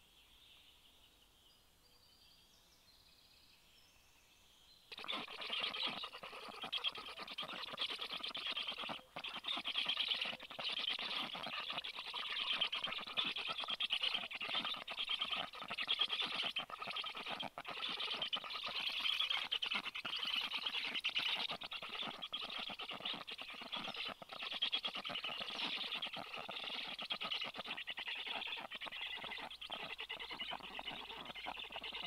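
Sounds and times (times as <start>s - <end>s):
bird chicks begging chatter: 4.9s - 32.0s.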